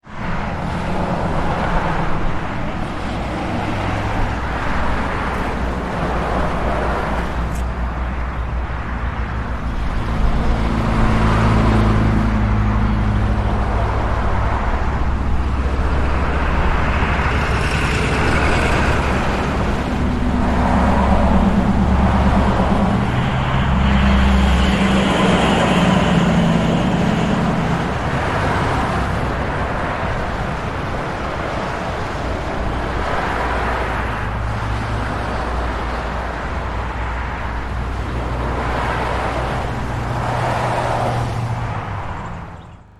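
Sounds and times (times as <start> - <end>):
street traffic passing: 0.0 - 42.9.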